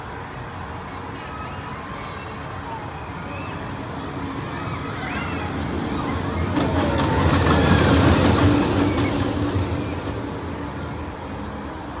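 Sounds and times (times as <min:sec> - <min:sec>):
roller coaster train rumbling: 0:00.0 - 0:12.0.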